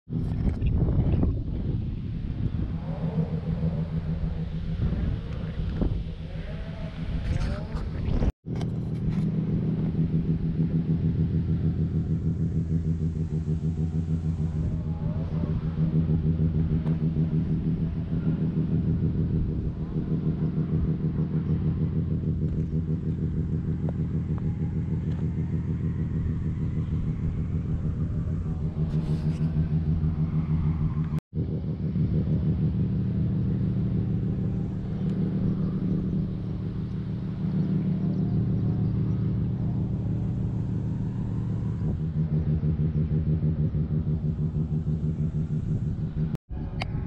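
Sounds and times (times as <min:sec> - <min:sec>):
car engine idling: 0:00.1 - 0:47.0.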